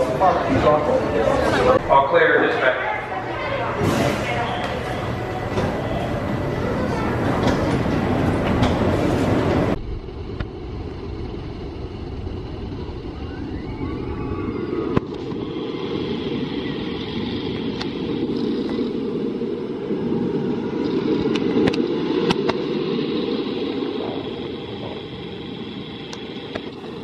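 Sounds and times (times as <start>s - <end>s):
roller coaster rumbling: 0.0s - 27.0s.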